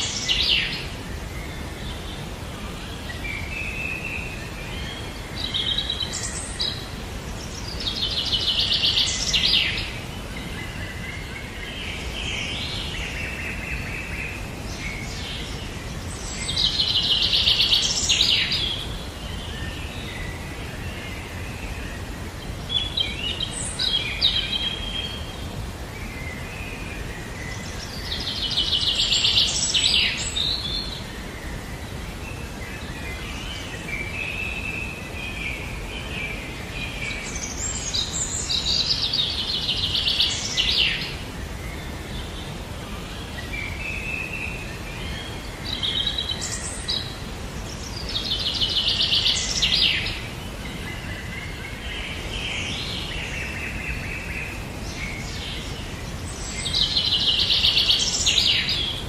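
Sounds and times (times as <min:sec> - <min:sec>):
low background noise: 0:00.0 - 0:59.0
soft bird calls: 0:00.0 - 0:59.0
songbirds singing trilled notes: 0:00.0 - 0:59.0.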